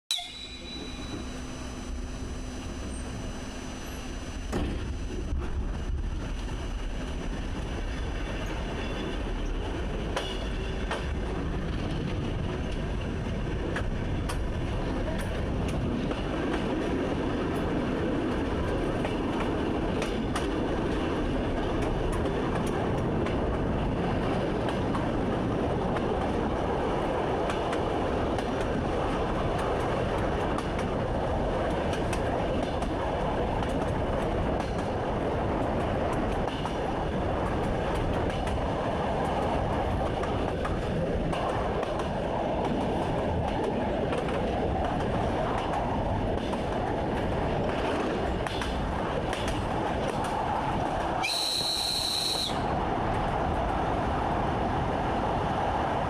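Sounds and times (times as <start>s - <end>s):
train rumbling on rails: 0.1s - 56.0s
wheels clicking over rail joints: 4.5s - 53.8s.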